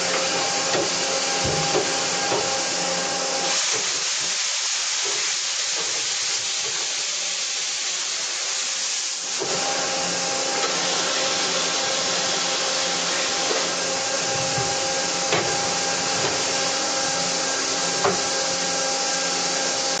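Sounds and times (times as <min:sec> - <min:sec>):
coolant spraying hiss: 0:00.0 - 0:20.0.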